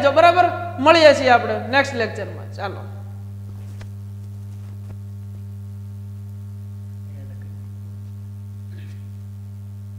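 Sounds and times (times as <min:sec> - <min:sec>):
low electrical hum: 0:00.0 - 0:09.9.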